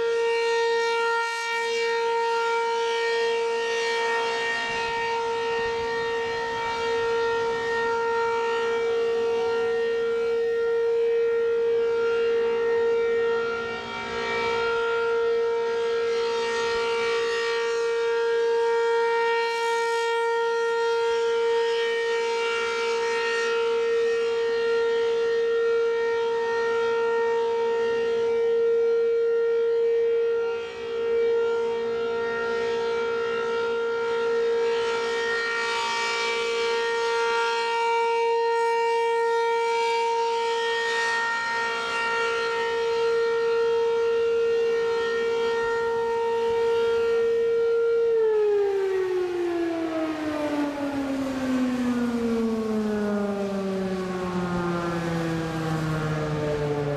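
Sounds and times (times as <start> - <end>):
rotating warning siren: 0.0 - 56.9.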